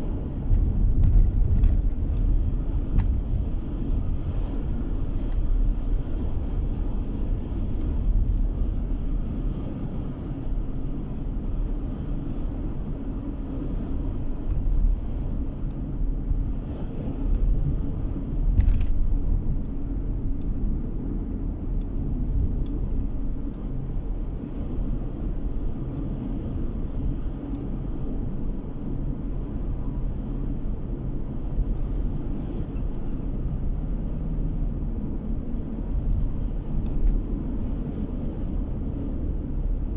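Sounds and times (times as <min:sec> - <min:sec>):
car driving cabin rumble: 0:00.0 - 0:39.9.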